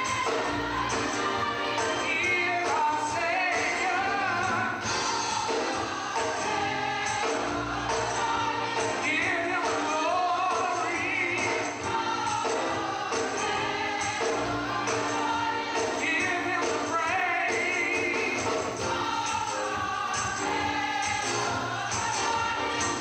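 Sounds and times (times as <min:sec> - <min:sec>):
choir singing: 0:00.0 - 0:23.0
steady percussion beat: 0:00.0 - 0:23.0.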